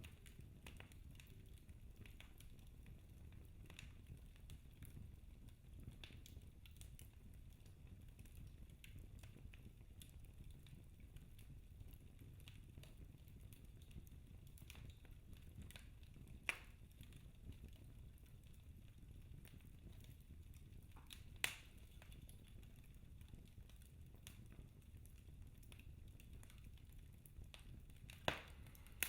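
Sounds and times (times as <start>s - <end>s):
fire crackling and popping: 0.0s - 29.0s
low rumble of fire: 0.0s - 29.0s.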